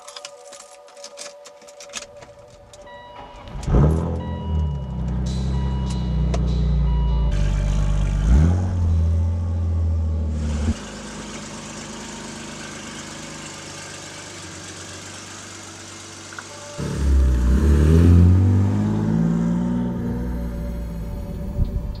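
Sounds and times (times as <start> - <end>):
faint engine hum: 2.4 - 22.0
car engine revving: 3.4 - 22.0.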